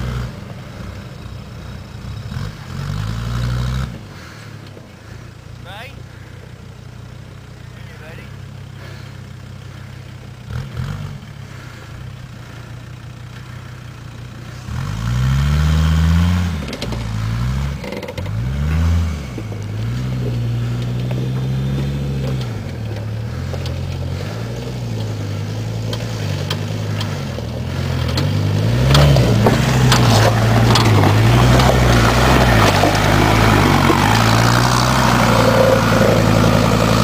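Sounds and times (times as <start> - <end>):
diesel engine revving: 0.0 - 37.0.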